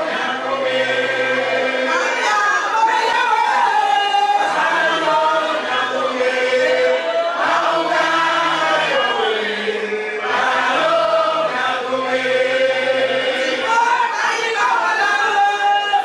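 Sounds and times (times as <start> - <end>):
group singing chant-like song: 0.0 - 16.0.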